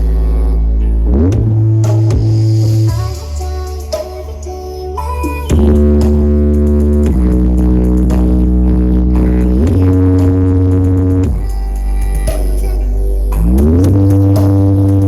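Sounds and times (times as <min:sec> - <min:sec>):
loud music with deep bass: 0:00.0 - 0:15.0.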